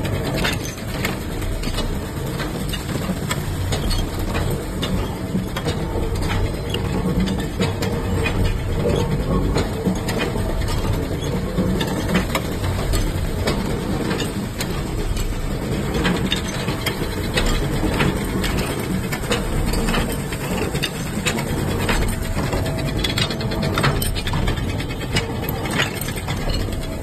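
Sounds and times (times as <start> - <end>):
machine hum: 0.0 - 27.0
metal parts clicking and clanking: 0.0 - 27.0.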